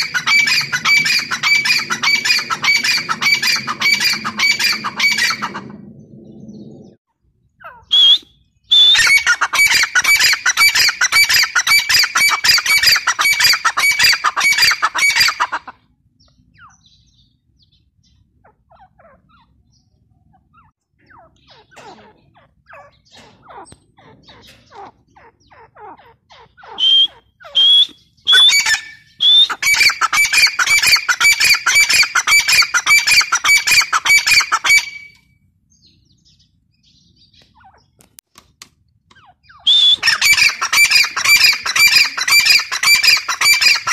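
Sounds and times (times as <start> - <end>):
birds squawking rapidly: 0.0 - 38.2, 39.1 - 43.9.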